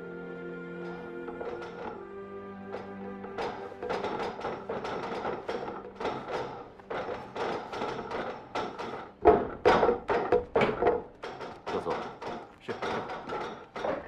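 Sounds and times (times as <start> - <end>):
strikes on wooden training dummies: 0.8 - 2.0, 2.7 - 14.0.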